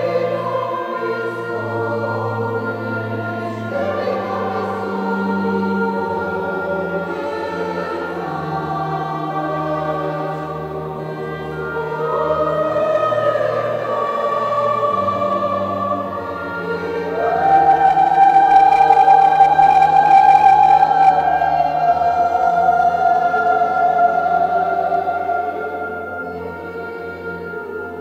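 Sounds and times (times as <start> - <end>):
mixed choir singing: 0.0 - 28.0.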